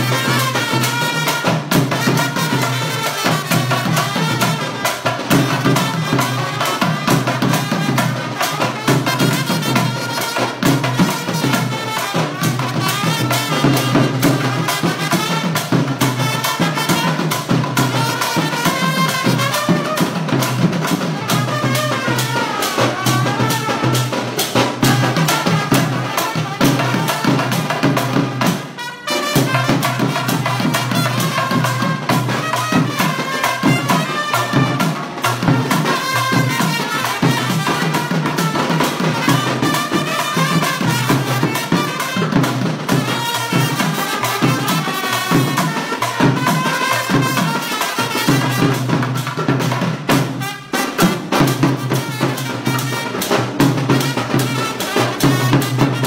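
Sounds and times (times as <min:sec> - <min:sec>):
brass band trumpets playing: 0:00.0 - 0:56.0
double-headed drum beating: 0:00.0 - 0:56.0.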